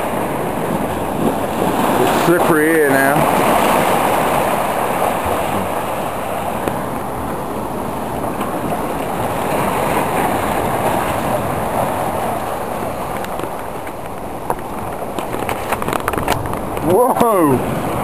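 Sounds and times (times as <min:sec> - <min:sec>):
sea surf washing around rocks: 0:00.0 - 0:18.0.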